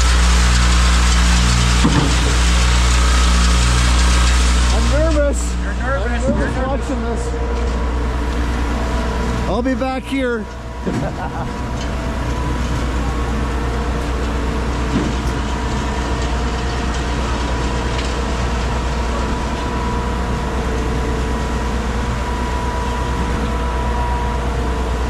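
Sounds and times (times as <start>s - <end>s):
diesel engine drone: 0.0s - 25.0s
hydraulic whine: 0.0s - 25.0s.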